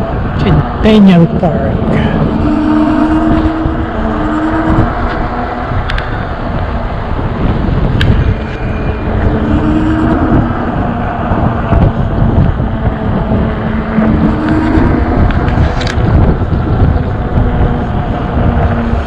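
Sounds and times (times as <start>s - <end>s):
bike road rumble: 0.0s - 19.0s
motor traffic passing: 0.0s - 19.0s
wind: 0.0s - 19.0s.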